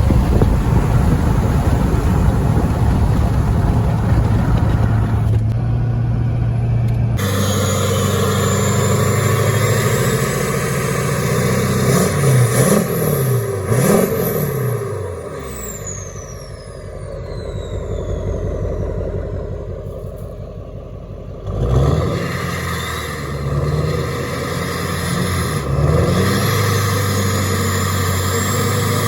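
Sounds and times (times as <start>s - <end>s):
diesel engine exhaust drone: 0.0s - 29.0s
engine revving: 0.0s - 29.0s.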